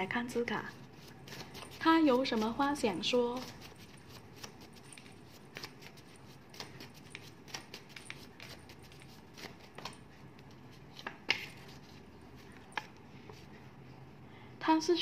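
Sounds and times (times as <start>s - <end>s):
paper cards handled: 0.9s - 13.4s.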